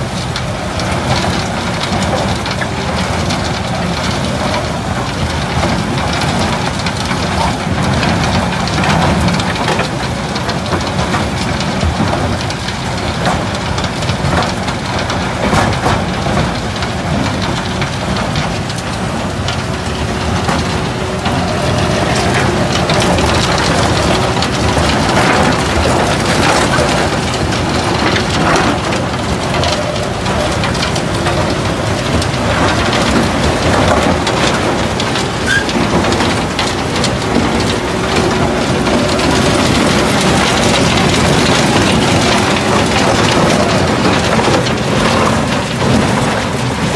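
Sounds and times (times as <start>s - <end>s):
concrete clattering through crusher: 0.0s - 46.9s
steady engine drone: 0.0s - 46.9s.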